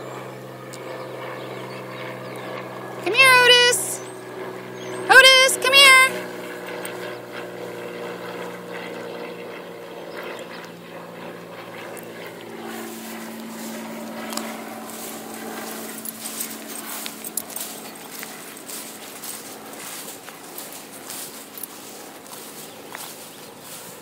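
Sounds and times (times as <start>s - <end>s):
distant engine hum: 0.0s - 24.0s.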